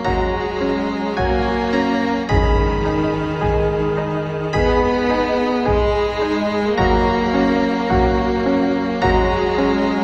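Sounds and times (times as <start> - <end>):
sustained chords: 0.0 - 10.0.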